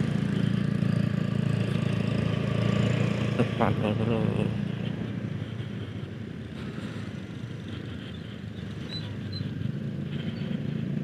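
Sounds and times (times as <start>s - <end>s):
road and wind noise: 0.0s - 11.0s
scooter engines humming: 0.0s - 11.0s.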